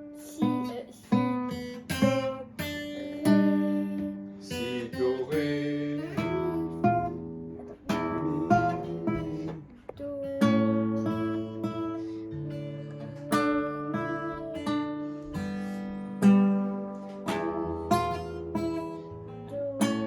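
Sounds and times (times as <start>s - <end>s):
guitar chords strummed: 0.0s - 20.0s.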